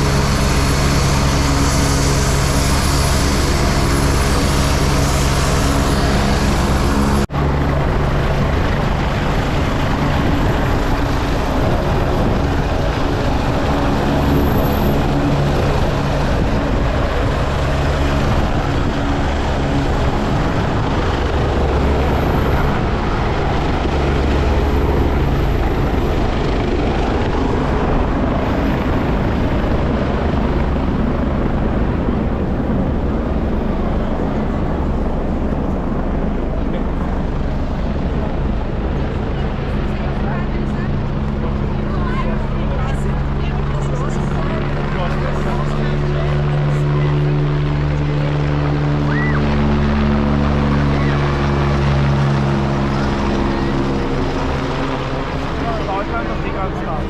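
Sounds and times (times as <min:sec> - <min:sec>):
helicopter rotors and engine: 0:00.0 - 0:57.0.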